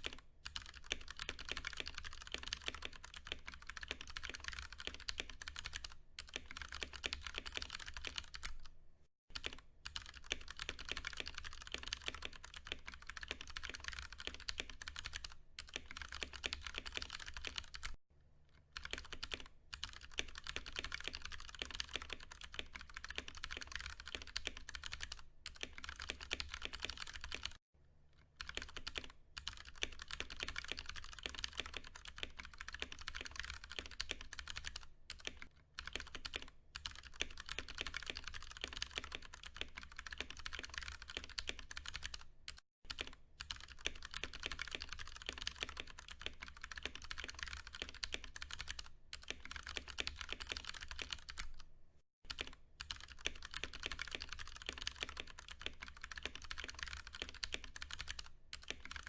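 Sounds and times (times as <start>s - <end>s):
mechanical keyboard typing: 0.0s - 8.7s, 9.3s - 18.0s, 18.8s - 27.6s, 28.4s - 51.7s, 52.3s - 59.0s.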